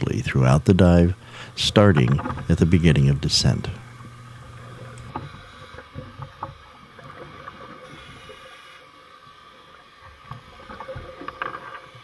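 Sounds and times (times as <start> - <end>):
underwater hum: 0.0 - 12.0.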